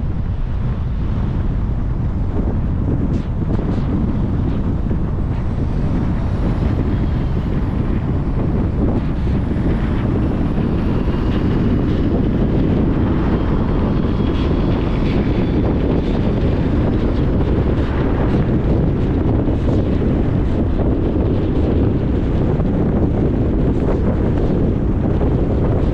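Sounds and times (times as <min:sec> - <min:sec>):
traffic rumble: 0:00.0 - 0:25.9
wind hiss: 0:00.0 - 0:25.9.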